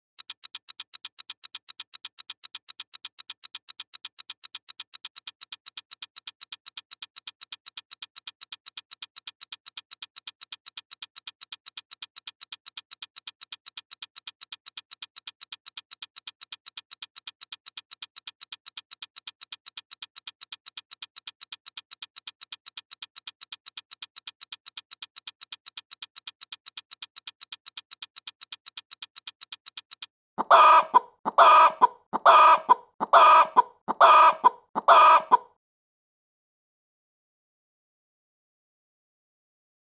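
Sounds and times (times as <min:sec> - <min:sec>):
egg timer ticking: 0:00.1 - 0:35.6.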